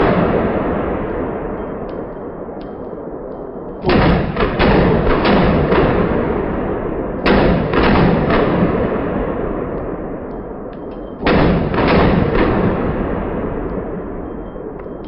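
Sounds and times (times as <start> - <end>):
pistol shots with echo: 0.0 - 15.0.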